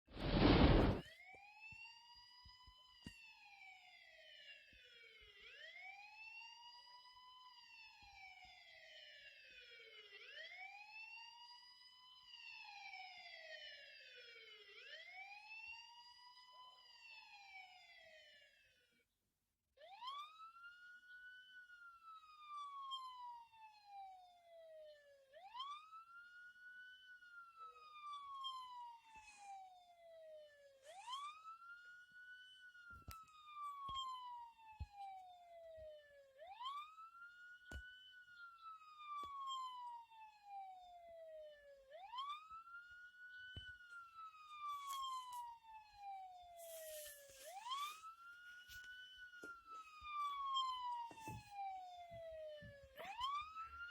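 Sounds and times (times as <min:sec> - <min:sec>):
police siren wailing: 0:00.1 - 0:18.7, 0:19.8 - 0:53.9.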